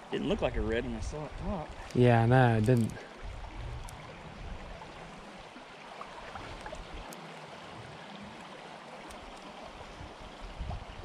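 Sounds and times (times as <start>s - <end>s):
river water rushing: 1.7s - 11.0s.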